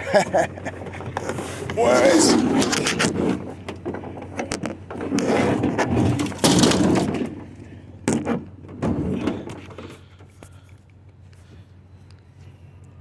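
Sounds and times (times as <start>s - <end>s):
rustling and clattering objects: 0.1s - 10.7s.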